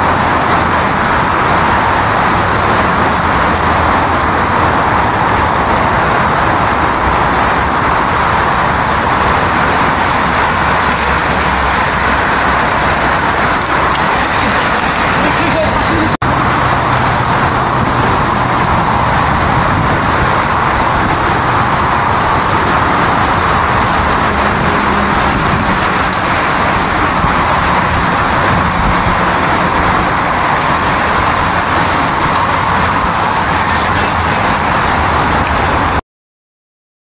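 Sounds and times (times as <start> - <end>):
engine hum: 0.0 - 36.0
road and tyre noise: 0.0 - 36.0.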